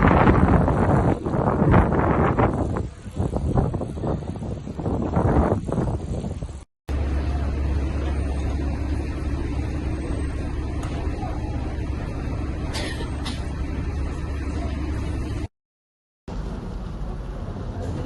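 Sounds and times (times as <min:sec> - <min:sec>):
vehicle engine rumbling: 0:00.0 - 0:15.5, 0:16.3 - 0:18.0.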